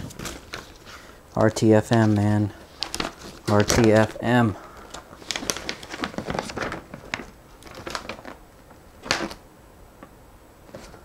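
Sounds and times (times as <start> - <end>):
paper rustling and crackling: 0.0 - 9.4, 10.7 - 11.0.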